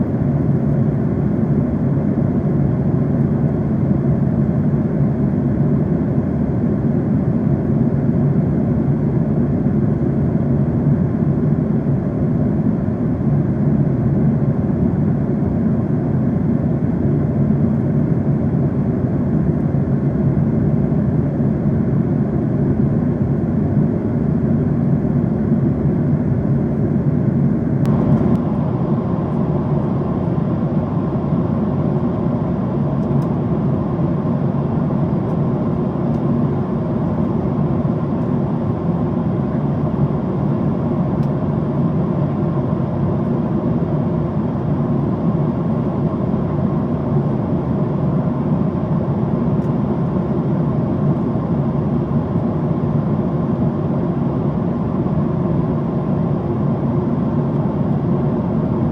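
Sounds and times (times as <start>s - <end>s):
airliner cabin engine drone: 0.0s - 58.9s.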